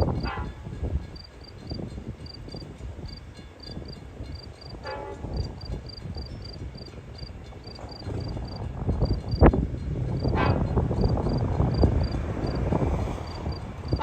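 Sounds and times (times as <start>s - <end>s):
diesel train rumble: 0.0s - 14.0s
insects chirping: 1.1s - 9.6s, 10.2s - 14.0s.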